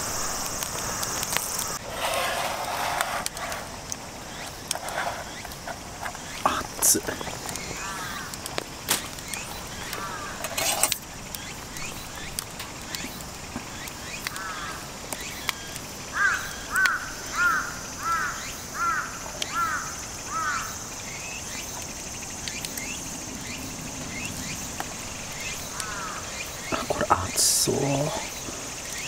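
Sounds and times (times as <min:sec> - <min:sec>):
bird calling: 0:00.0 - 0:29.0
high insect drone: 0:00.0 - 0:29.0.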